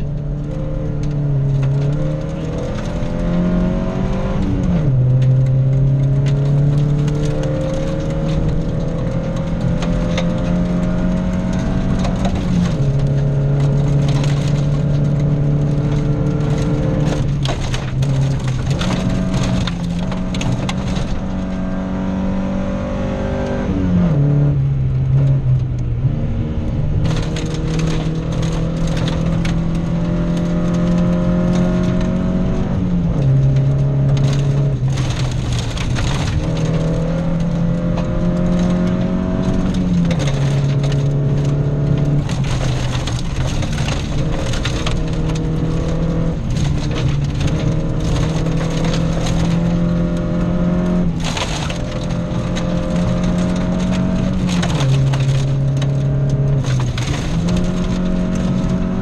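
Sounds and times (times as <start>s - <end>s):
stones rattling against underbody: 0.0s - 21.6s, 27.0s - 32.4s, 33.0s - 59.0s
rally car engine revving: 0.0s - 59.0s.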